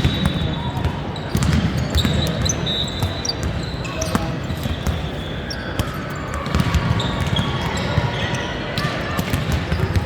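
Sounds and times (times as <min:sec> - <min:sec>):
shoes squeaking: 0:00.0 - 0:08.8
hubbub of voices: 0:00.0 - 0:10.0.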